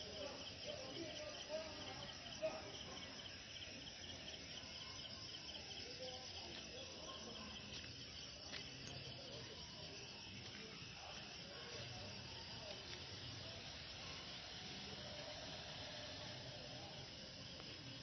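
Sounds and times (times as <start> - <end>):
faint night insects chirping: 0.0 - 18.0
low background noise: 0.0 - 18.0.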